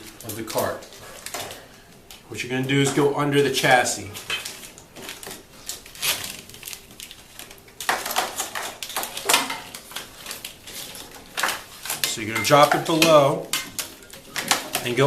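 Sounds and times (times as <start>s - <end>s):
wiring harness clicking and rattling: 0.0s - 15.0s.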